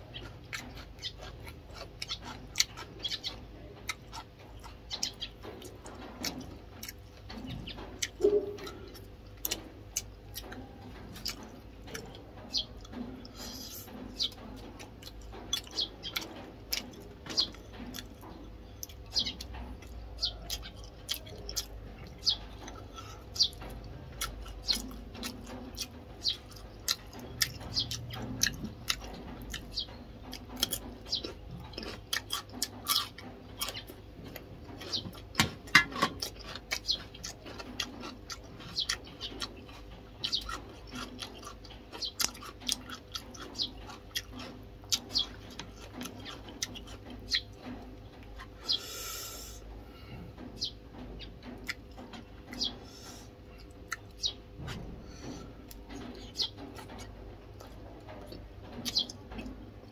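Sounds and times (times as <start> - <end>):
person chewing crunchy food: 0.0 - 49.6, 51.6 - 59.6.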